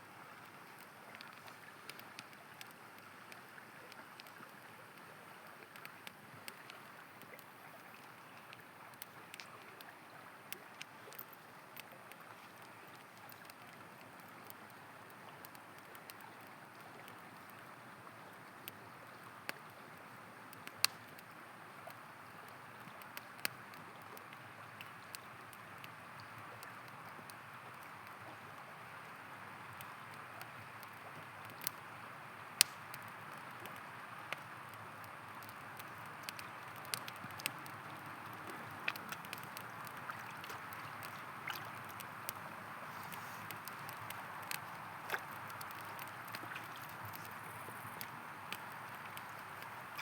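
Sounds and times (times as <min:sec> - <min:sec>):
river water flowing: 0:00.0 - 0:50.0
campfire crackling and popping: 0:00.2 - 0:50.0.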